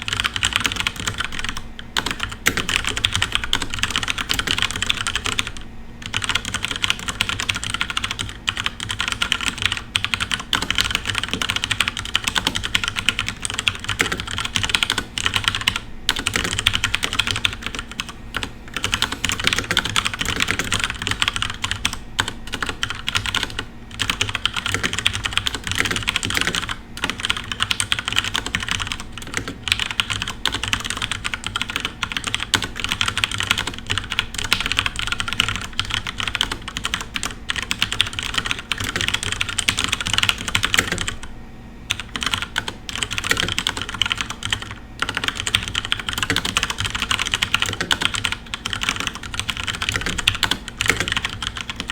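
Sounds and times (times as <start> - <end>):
fast mechanical keyboard typing: 0.0 - 41.3, 41.9 - 51.9.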